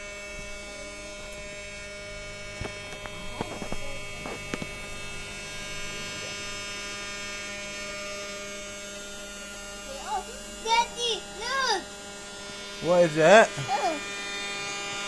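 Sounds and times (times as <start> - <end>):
toy vacuum motor humming: 0.0 - 15.0.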